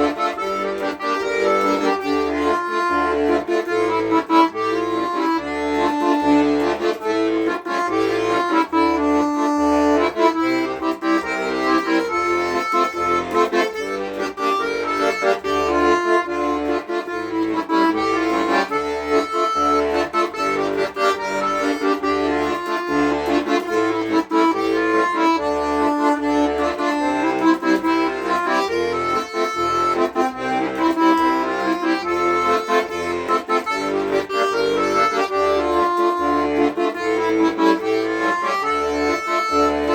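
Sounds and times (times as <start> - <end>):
accordion melody: 0.0 - 39.9.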